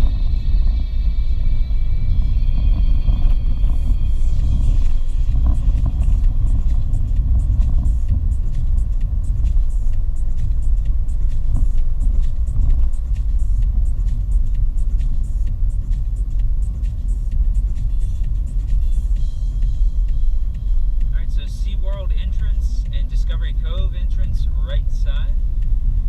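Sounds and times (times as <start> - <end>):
car driving on road: 0.0 - 26.0
faint regular ticking: 2.8 - 26.0.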